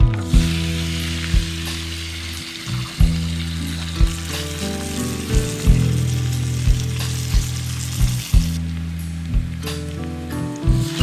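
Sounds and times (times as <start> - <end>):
background music with low thumps: 0.0 - 11.0
onion sizzling in a pan: 0.0 - 11.0.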